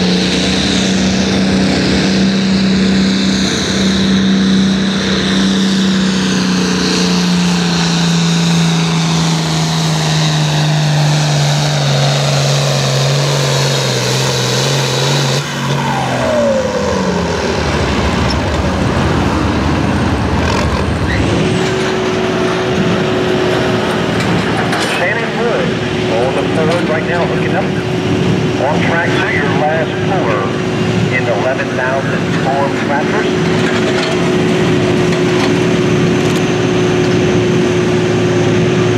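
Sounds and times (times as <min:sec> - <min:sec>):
engine winding down: 0:00.0 - 0:38.9
tractor engine at high revs: 0:00.0 - 0:38.9
tractor engine under full load: 0:00.0 - 0:38.9.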